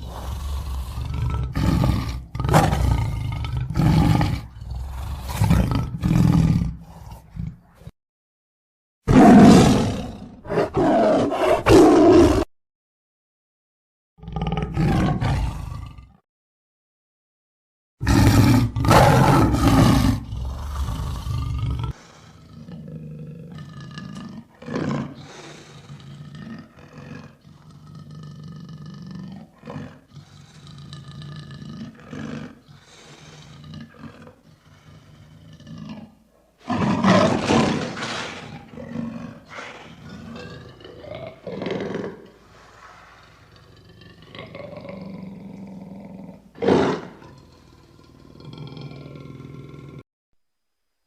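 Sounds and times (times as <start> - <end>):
lion roaring: 0.0 - 7.8, 9.1 - 12.5, 14.2 - 16.2, 18.0 - 50.0.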